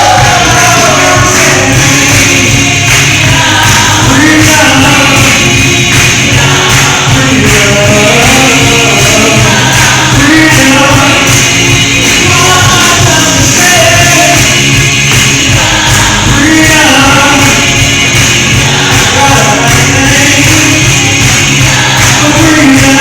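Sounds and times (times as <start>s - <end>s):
band with steady beat: 0.0s - 23.0s
lead singer: 0.0s - 23.0s
voices singing along: 0.0s - 23.0s.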